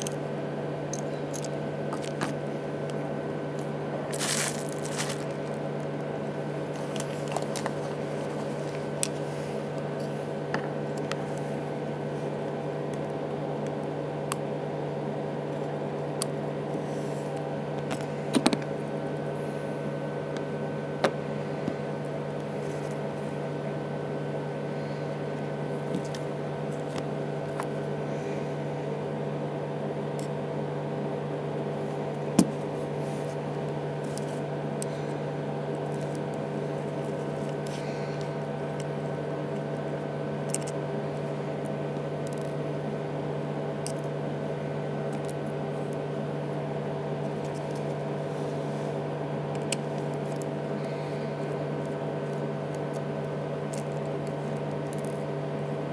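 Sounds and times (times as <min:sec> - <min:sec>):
steady machine hum: 0:00.0 - 0:55.9.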